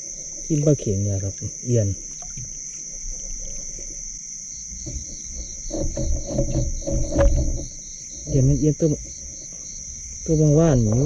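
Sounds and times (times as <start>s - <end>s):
insect chirping in pulses: 0.0s - 11.0s
insects trilling: 0.0s - 11.0s
low rustling and knocks: 2.0s - 11.0s.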